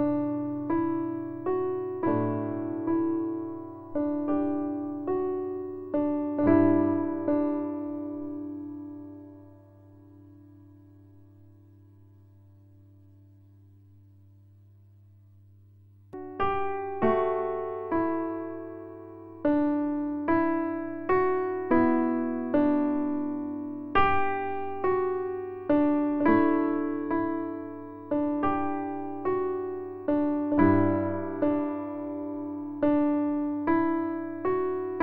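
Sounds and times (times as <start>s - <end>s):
slow electric piano music: 0.0s - 13.6s, 16.1s - 35.0s.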